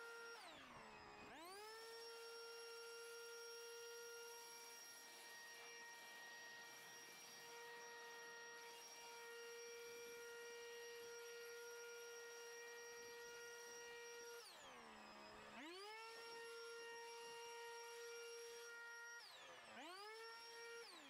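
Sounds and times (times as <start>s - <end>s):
leaf blower motor whine: 0.0s - 21.0s.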